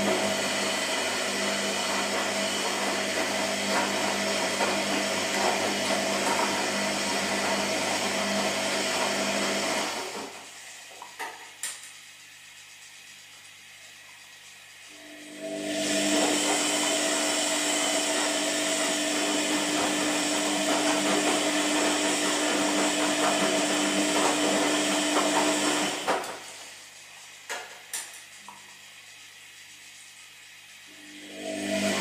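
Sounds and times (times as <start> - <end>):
washing machine motor running: 0.0 - 32.0.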